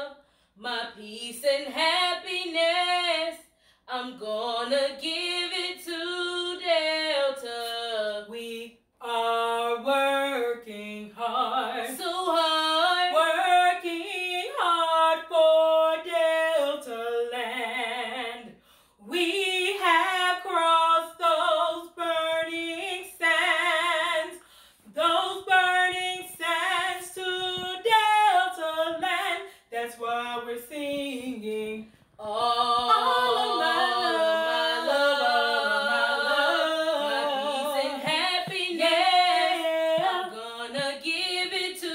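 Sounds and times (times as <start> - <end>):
woman singing unaccompanied: 0.0 - 41.9.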